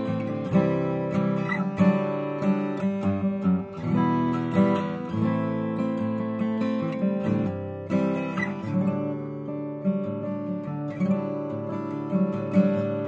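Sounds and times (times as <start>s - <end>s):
acoustic guitar plucked notes and chords: 0.0s - 13.0s.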